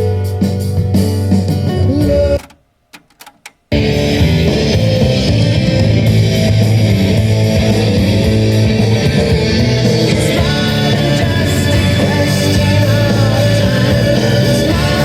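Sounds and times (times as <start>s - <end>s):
rock music with electric guitar: 0.0s - 2.5s, 3.7s - 15.0s.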